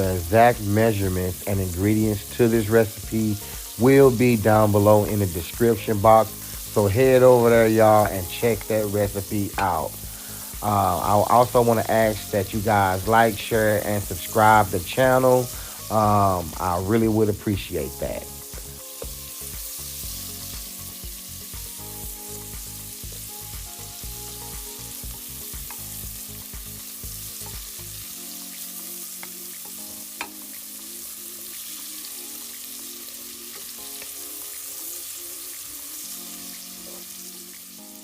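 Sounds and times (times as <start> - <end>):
onions sizzling in a skillet: 0.0 - 38.0.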